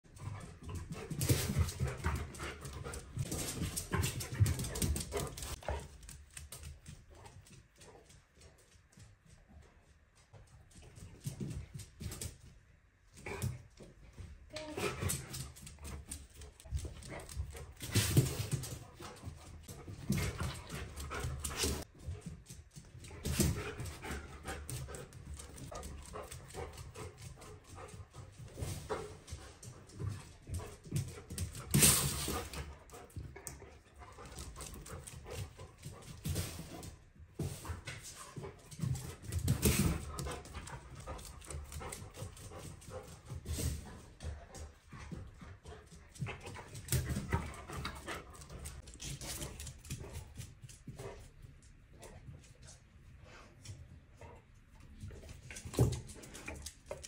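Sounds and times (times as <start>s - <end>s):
dog panting: 0.1s - 9.7s, 14.6s - 51.3s
dog paws tapping on wooden floor: 0.1s - 52.9s, 53.6s - 57.0s.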